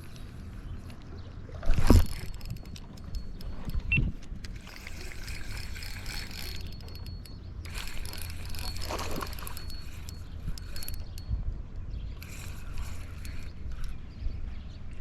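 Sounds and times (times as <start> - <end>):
fishing reel whirring: 1.6 - 11.3, 12.2 - 14.5.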